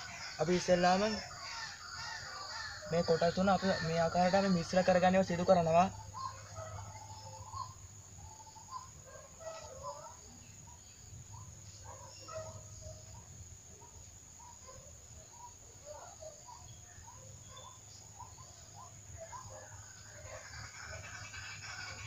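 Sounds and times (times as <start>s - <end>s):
bird chirps: 0.0s - 22.0s.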